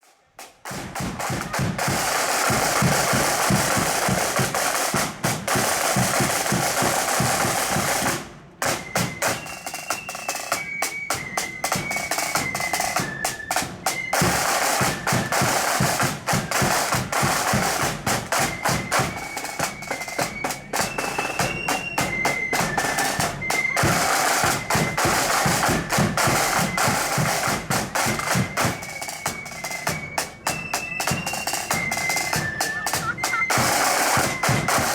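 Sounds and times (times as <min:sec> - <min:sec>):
snare drum roll: 0:00.4 - 0:34.9
high flute melody: 0:01.0 - 0:34.9.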